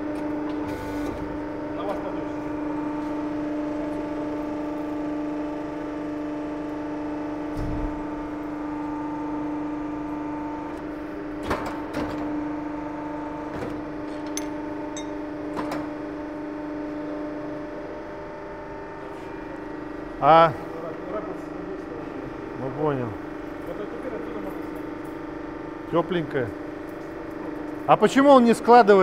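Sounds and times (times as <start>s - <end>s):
hydraulic machine hum: 0.0s - 29.0s.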